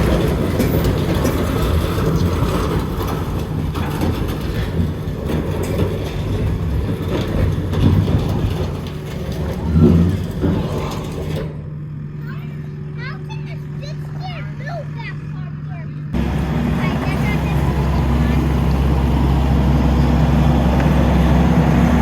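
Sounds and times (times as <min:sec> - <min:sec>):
knocks and clanks: 0:00.0 - 0:11.7, 0:16.1 - 0:22.0
skid steer engine running: 0:00.0 - 0:22.0.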